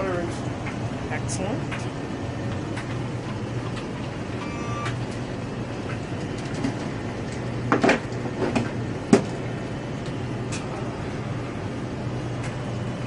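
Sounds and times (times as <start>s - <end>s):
gas furnace humming: 0.0s - 13.0s.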